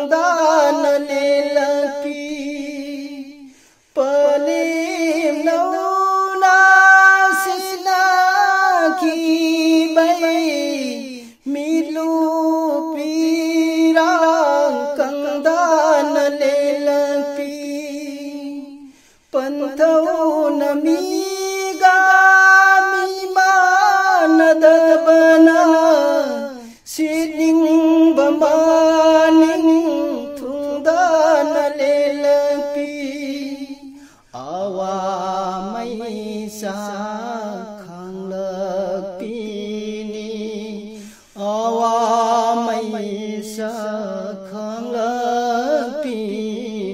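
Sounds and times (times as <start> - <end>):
person singing unaccompanied: 0.0 - 46.9.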